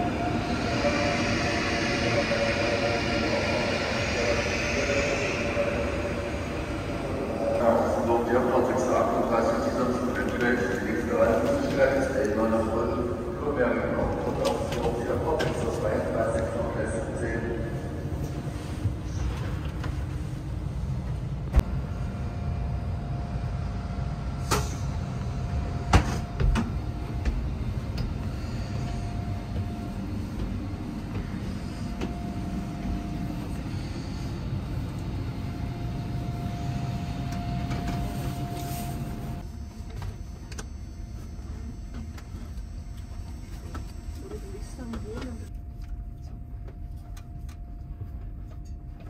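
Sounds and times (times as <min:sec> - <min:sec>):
train car interior hum: 0:00.0 - 0:49.0.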